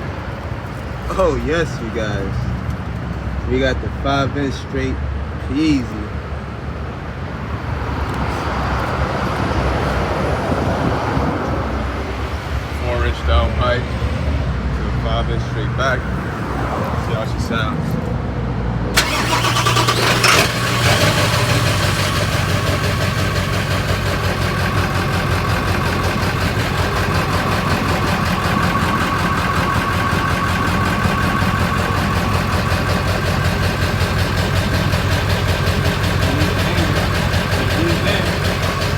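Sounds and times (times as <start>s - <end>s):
diesel engine starting and idling: 0.0s - 4.7s, 5.9s - 18.0s, 18.8s - 38.9s.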